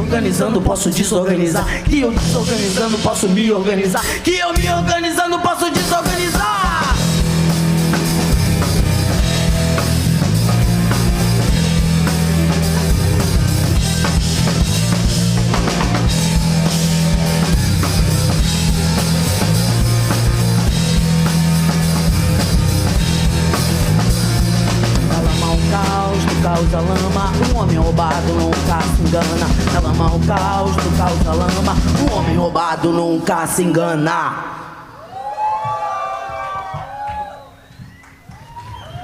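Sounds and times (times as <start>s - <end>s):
rock band playing: 0.0s - 32.6s.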